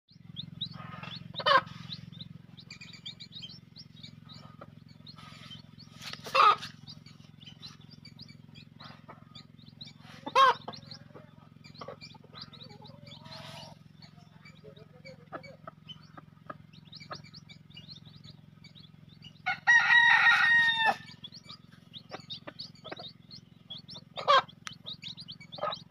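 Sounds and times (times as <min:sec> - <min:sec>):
chickens calling: 0:00.1 - 0:25.9
steady low hum: 0:00.1 - 0:25.9.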